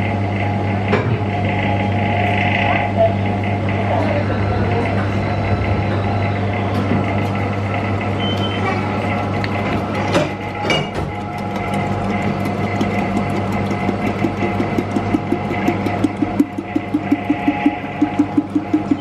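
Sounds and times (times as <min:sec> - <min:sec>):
vending machine humming: 0:00.0 - 0:19.0.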